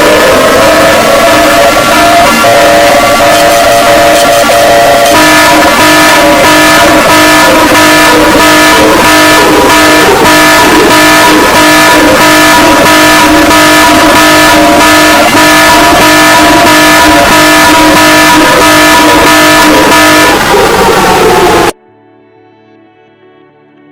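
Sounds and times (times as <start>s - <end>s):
harsh pulsing alarm tone: 0.0s - 21.8s.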